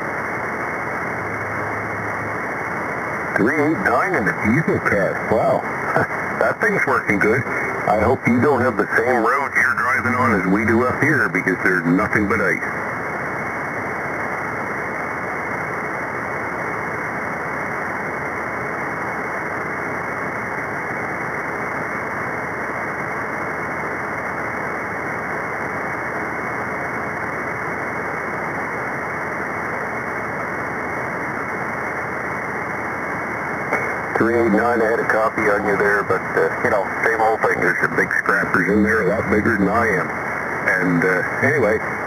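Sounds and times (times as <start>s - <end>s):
faint steady tone: 0.0s - 42.0s
radio static hiss: 0.0s - 42.0s.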